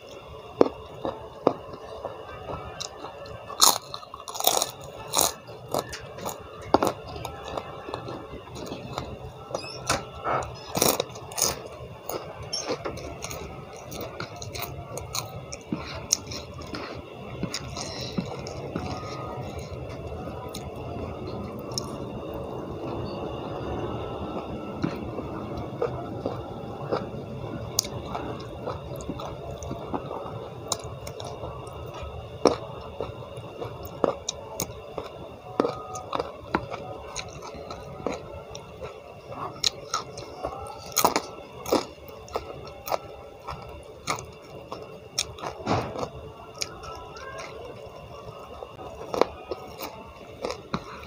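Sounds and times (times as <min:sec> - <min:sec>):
close-up chewing: 0:00.0 - 0:51.0.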